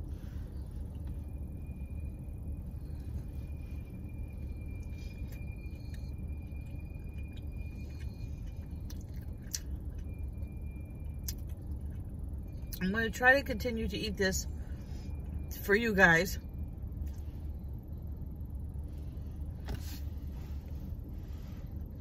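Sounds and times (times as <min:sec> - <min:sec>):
car engine idling: 0:00.0 - 0:22.0
faint high whine: 0:00.0 - 0:22.0.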